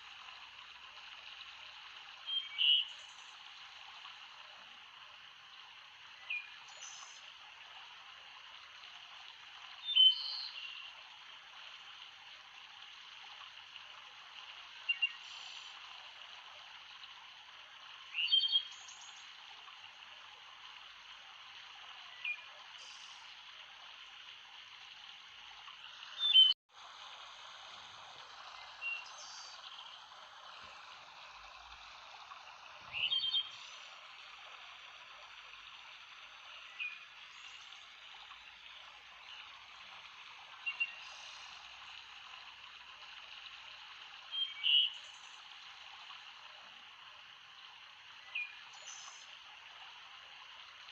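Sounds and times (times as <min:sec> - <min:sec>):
running water rushing: 0:00.0 - 0:50.9.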